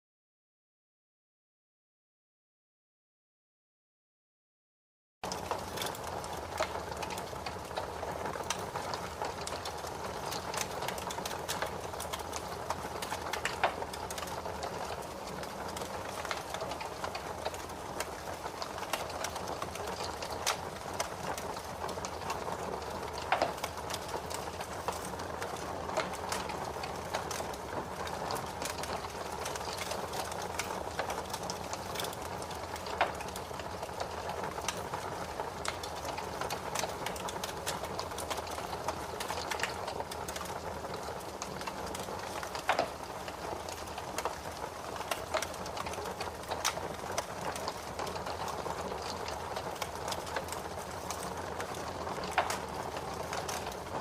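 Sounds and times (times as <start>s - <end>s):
wood fire crackling: 5.2s - 54.0s
fire popping: 5.3s - 54.0s.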